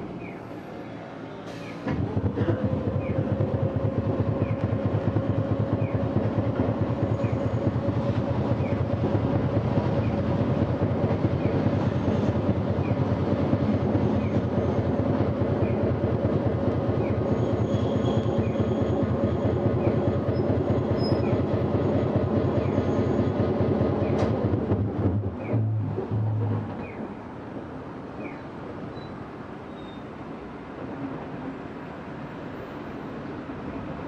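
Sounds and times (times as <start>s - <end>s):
streetcar motors and wheels rumbling: 0.0s - 34.0s.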